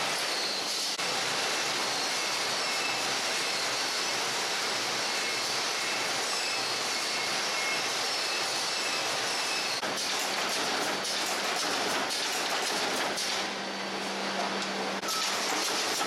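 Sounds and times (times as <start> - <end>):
production line machines running: 0.0 - 16.0.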